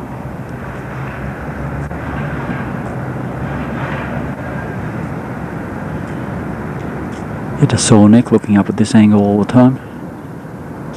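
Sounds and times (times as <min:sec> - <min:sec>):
faint hum: 0:00.0 - 0:10.9
low outdoor rumble: 0:00.0 - 0:10.9.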